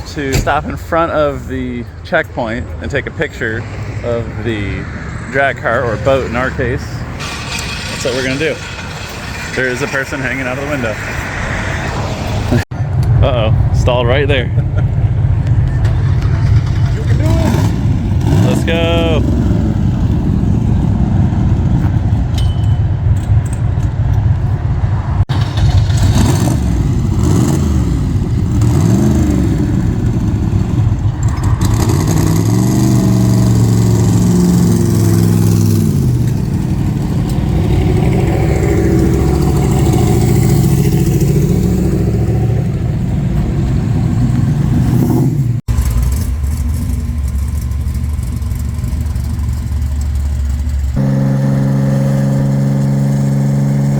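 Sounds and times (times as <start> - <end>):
car engine revving: 2.8 - 22.3, 24.7 - 53.9.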